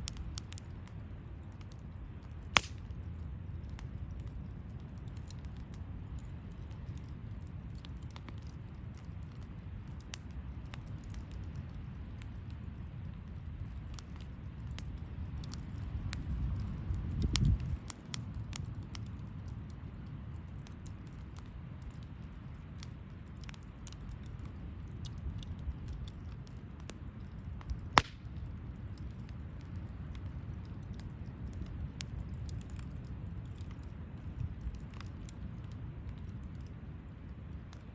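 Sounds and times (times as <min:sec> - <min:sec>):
campfire crackling and popping: 0:00.0 - 0:37.9
low rumble of flame: 0:00.0 - 0:37.9.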